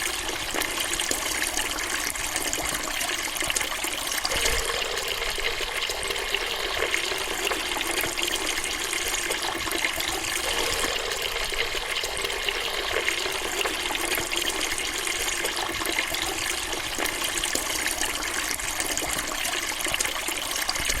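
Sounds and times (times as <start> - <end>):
water running from a faucet: 0.0 - 21.0.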